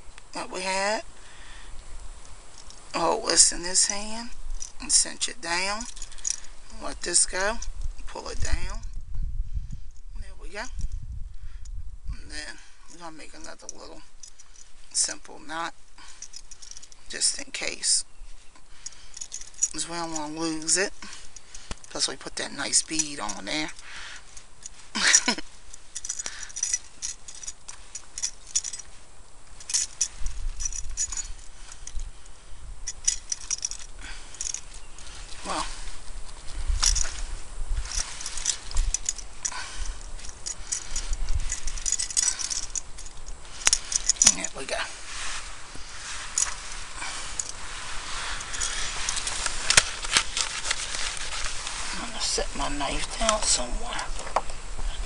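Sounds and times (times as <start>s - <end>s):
steady hiss: 0.0s - 10.0s, 10.7s - 55.0s
fishing tackle clicks and rustling: 1.7s - 55.0s
small metal parts clinking: 2.4s - 8.9s, 12.5s - 55.0s.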